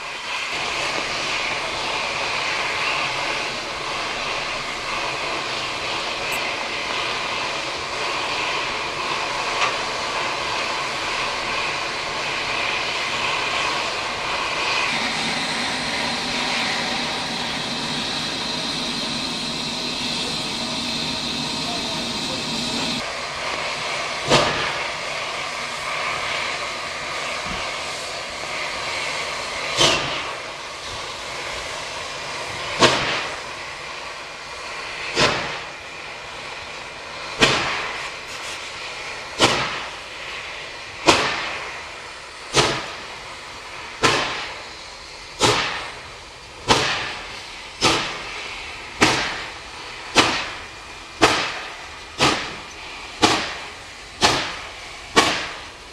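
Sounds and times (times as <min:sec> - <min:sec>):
steady steam hiss: 0:00.0 - 0:55.9
steam locomotive chuffing: 0:00.0 - 0:55.9.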